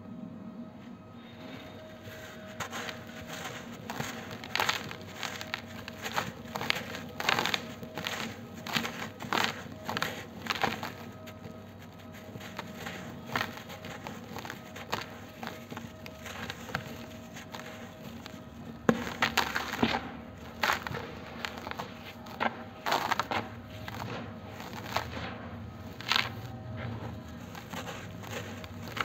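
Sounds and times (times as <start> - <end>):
dust balls crunching by hand: 1.5 - 29.0
powder pouring through fingers: 2.0 - 29.0.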